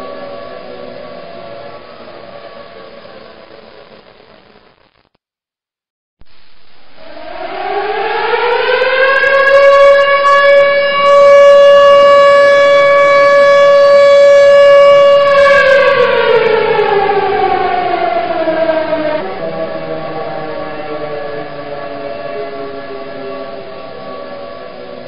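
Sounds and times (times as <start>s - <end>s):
siren wailing: 0.0s - 4.0s, 6.9s - 25.0s.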